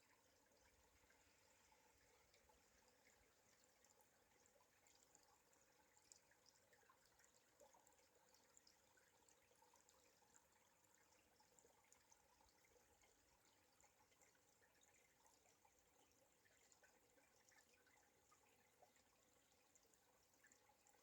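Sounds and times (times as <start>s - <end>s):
stream trickling and dripping: 0.0s - 21.0s.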